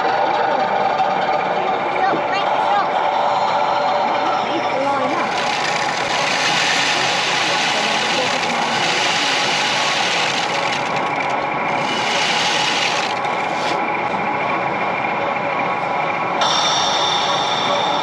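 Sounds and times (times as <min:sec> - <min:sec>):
hall noise: 0:00.0 - 0:18.0
hubbub of many voices: 0:00.0 - 0:18.0.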